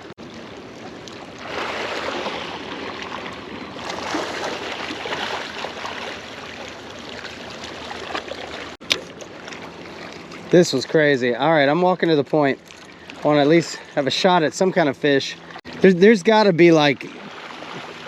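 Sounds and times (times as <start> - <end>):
water splashing and rushing: 0.0 - 18.0.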